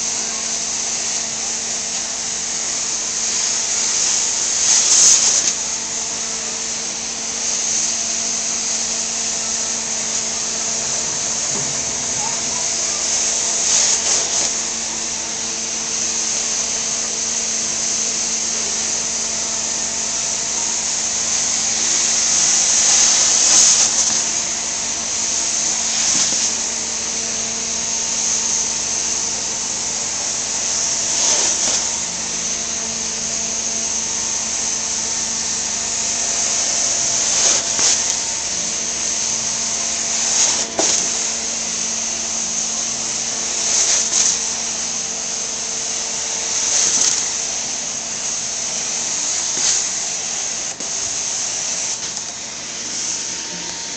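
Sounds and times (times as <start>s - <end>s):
machine hum: 0.0s - 53.9s
steam hissing: 0.0s - 53.9s.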